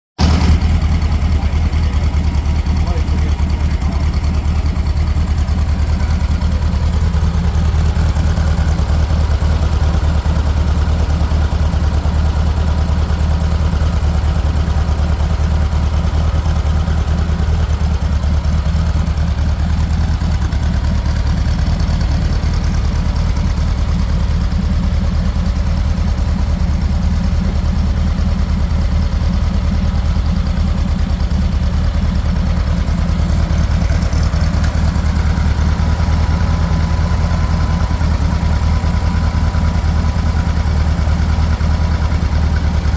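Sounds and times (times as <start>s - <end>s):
car engine idling: 0.2s - 42.9s.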